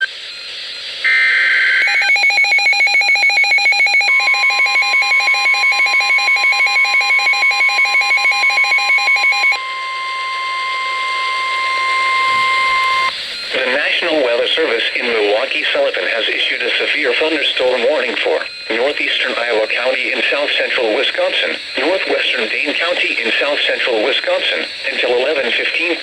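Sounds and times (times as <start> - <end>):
rapid electronic alarm beeps: 1.8 - 9.6, 11.3 - 26.0
steady warning alarm tone: 1.8 - 26.0.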